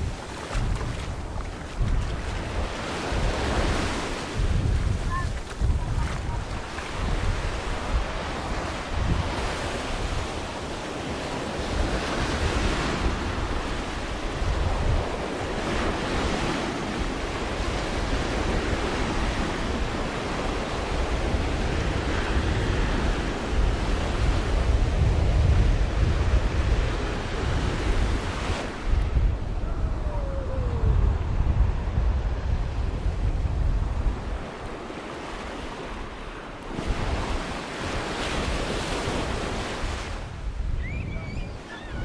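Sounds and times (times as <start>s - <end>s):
sea surf washing onto beach: 0.0s - 42.0s
wind buffeting microphone: 0.0s - 42.0s.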